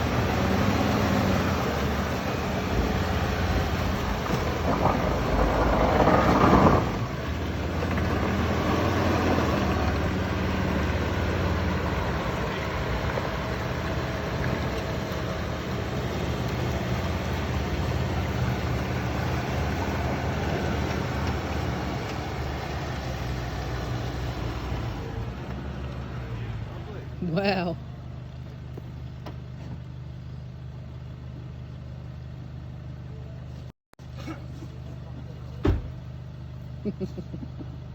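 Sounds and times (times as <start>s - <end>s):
vehicle engine under load: 0.0s - 37.9s.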